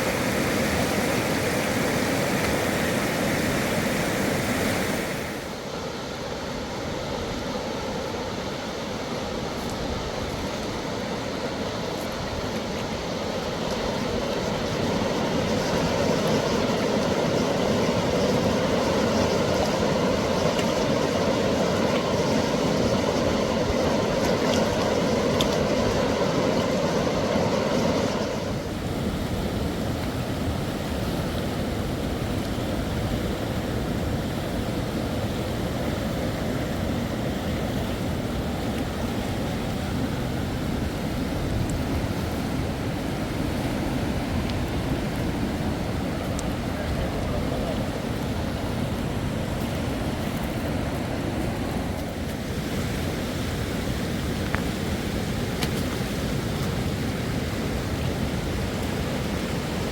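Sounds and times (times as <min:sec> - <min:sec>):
fast-flowing river rushing: 0:00.0 - 0:59.9.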